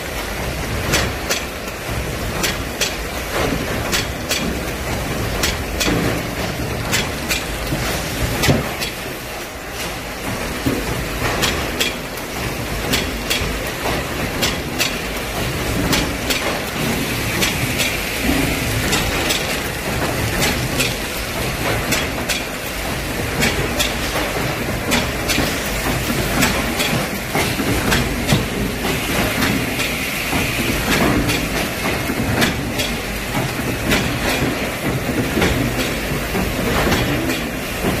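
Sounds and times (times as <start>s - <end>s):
packaging machine hum and hiss: 0.0s - 38.0s.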